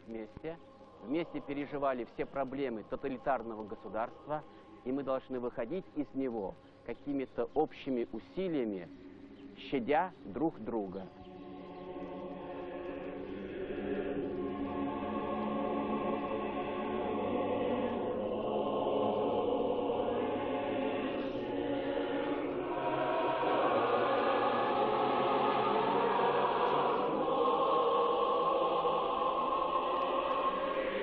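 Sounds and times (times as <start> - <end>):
choir singing sustained chant: 0.0 - 31.0.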